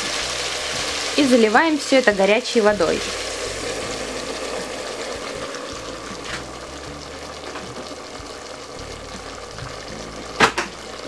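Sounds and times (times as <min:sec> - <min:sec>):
water hissing and bubbling in hot pan: 0:00.0 - 0:11.0.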